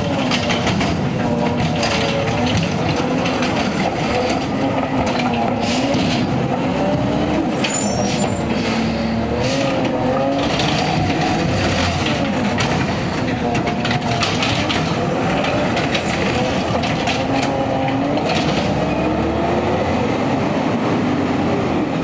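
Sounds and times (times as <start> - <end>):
garbage truck engine revving: 0.0 - 22.0.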